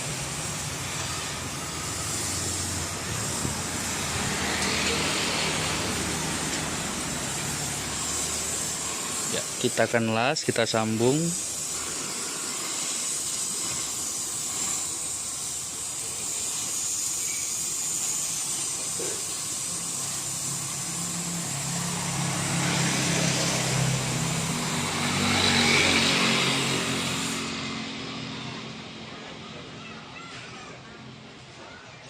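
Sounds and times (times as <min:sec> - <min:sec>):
welding arc hissing: 0:00.0 - 0:29.8
vehicle engine: 0:00.0 - 0:30.2.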